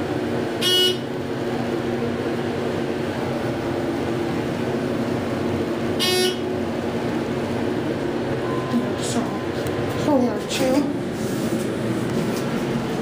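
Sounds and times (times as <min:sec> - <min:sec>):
elevator hum and rumble: 0:00.0 - 0:13.0.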